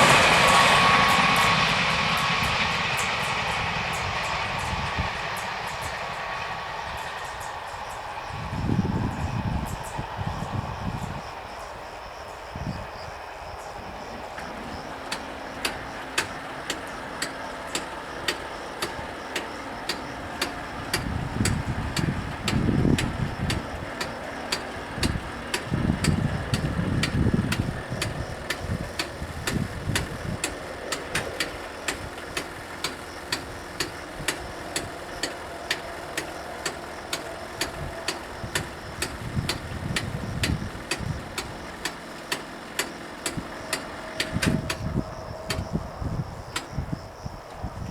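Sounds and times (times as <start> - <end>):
low rumbles: 0.0 - 11.7, 12.4 - 47.9.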